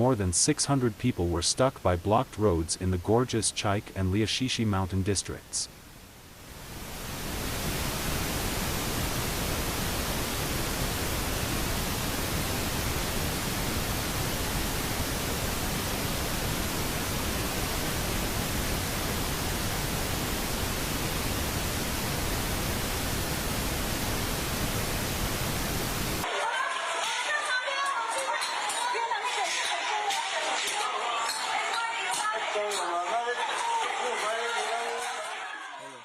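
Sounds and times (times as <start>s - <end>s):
static hiss: 0.0s - 30.5s.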